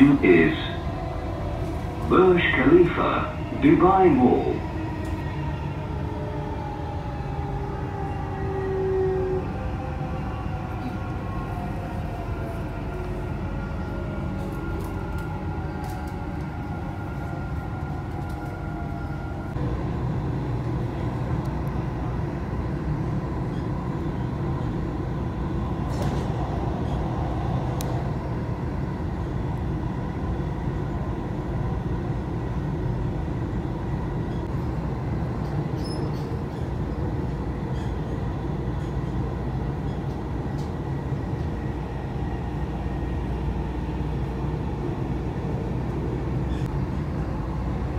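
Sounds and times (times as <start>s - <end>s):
train wheels and motors rumbling: 0.0s - 47.9s.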